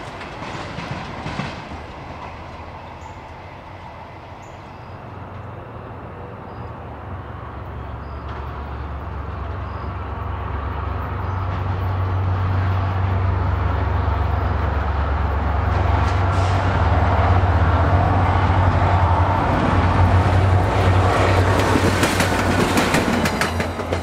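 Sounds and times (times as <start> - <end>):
locomotive engine drone: 0.0 - 24.0
train rumble: 0.0 - 24.0.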